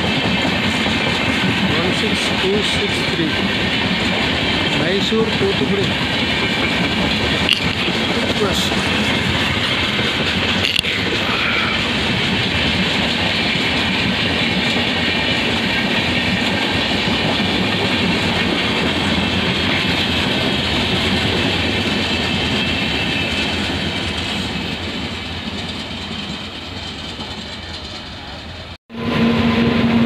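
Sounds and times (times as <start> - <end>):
train rolling on rails: 0.0 - 30.0.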